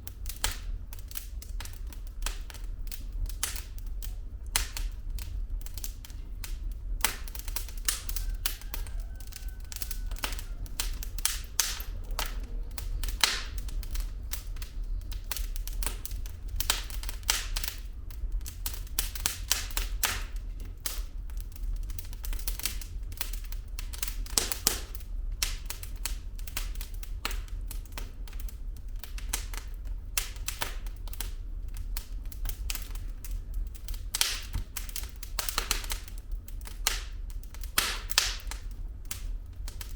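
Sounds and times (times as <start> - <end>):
firewood crackling and popping: 0.0 - 39.9
low rumble of flames: 0.0 - 39.9.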